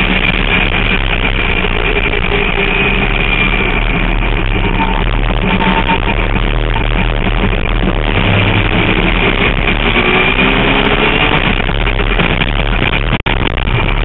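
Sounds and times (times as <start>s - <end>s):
heavy wind noise: 0.0s - 14.0s
race car engine drone: 0.0s - 14.0s.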